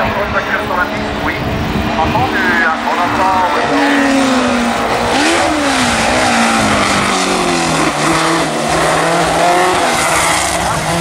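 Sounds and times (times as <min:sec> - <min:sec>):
racing car engine at high revs: 0:00.0 - 0:11.0.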